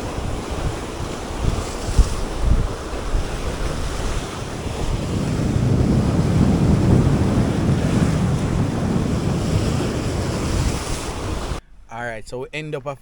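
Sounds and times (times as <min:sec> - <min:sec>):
waves washing in: 0:00.0 - 0:11.6
wind buffeting microphone: 0:00.0 - 0:11.6.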